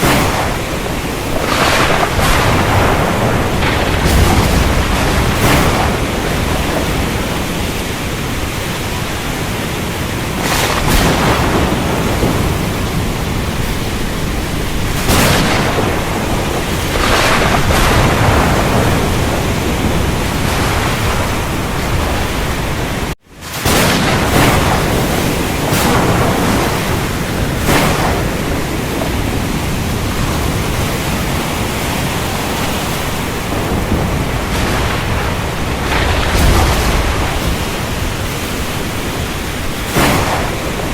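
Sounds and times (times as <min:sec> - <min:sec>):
heavy rain hissing: 0:00.0 - 0:40.9
thunder rumbling: 0:00.0 - 0:40.9.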